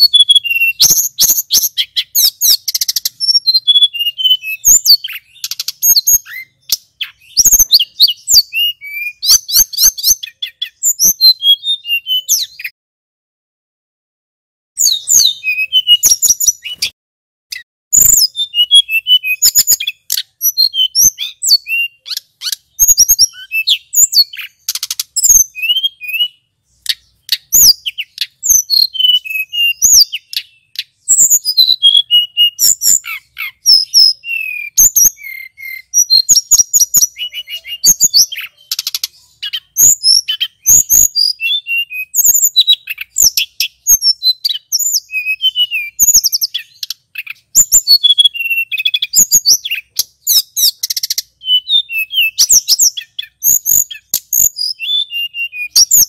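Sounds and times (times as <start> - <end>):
flycatcher singing: 0.0 - 12.8, 14.8 - 56.0.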